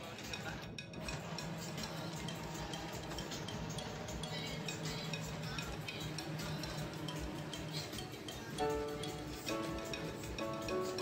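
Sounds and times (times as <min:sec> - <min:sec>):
bus engine hum: 0:01.0 - 0:10.0.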